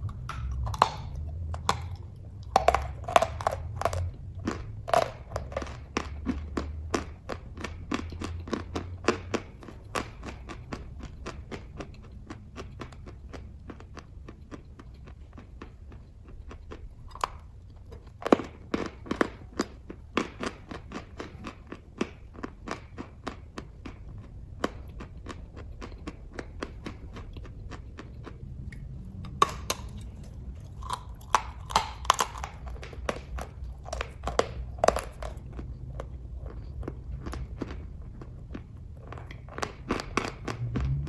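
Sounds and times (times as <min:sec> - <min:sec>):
wet chewing mouth clicks: 0:00.0 - 0:41.0.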